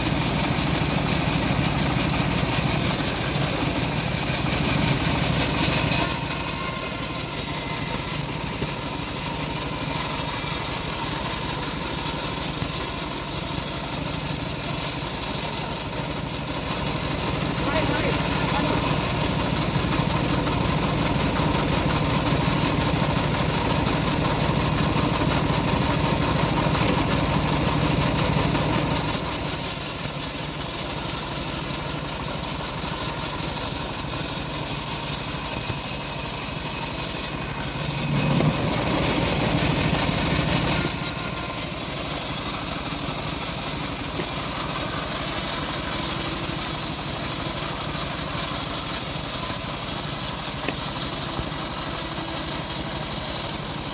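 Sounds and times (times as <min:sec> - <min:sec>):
chainsaw cutting timber: 0:00.0 - 0:53.9.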